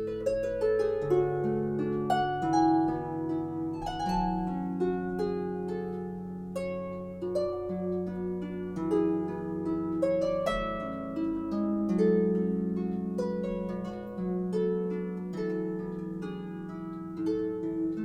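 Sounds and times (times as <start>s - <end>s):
harp music: 0.0s - 18.0s.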